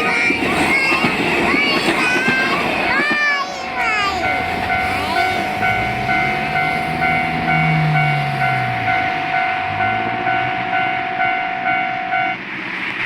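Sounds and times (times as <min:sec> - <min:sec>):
level crossing alarm ringing: 0:00.0 - 0:12.5
diesel train rumbling: 0:00.0 - 0:13.0.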